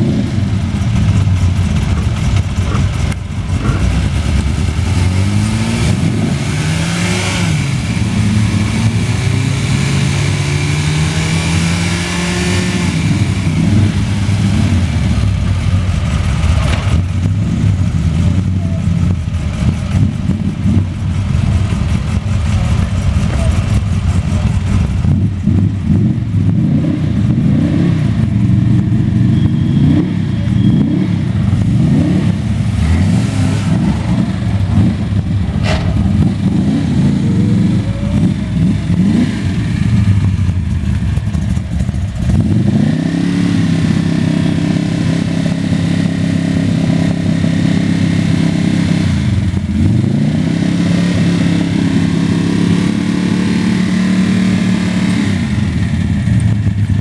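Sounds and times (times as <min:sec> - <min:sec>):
engines blipped: 0:00.0 - 0:57.0
race car engine revving: 0:00.0 - 0:57.0.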